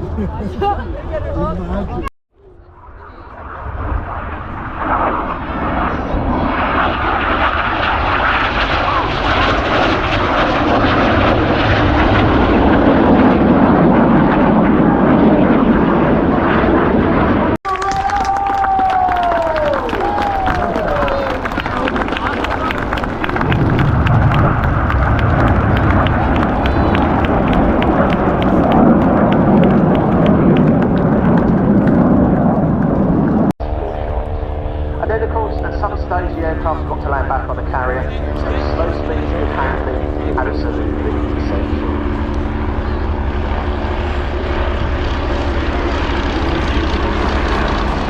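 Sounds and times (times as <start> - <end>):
jets flying past: 2.6 - 17.6, 18.9 - 48.0.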